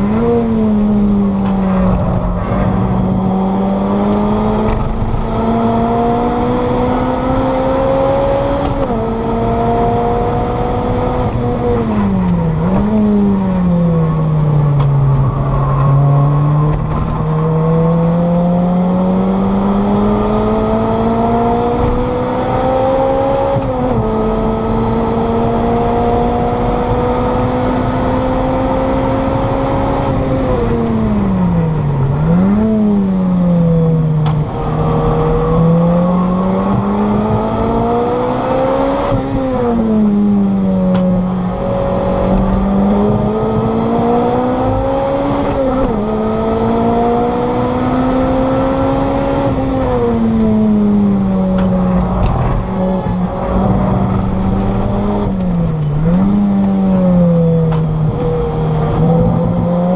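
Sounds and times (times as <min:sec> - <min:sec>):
car engine accelerating and braking: 0:00.0 - 0:59.9.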